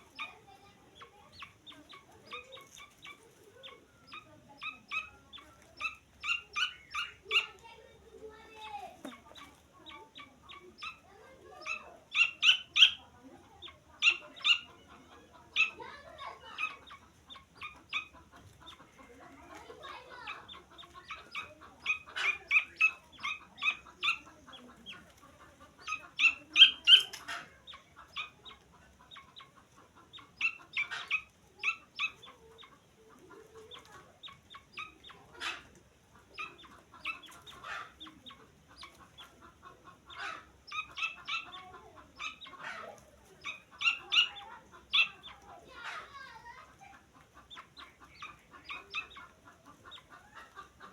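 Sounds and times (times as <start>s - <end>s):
chicks peeping: 0.0s - 50.9s.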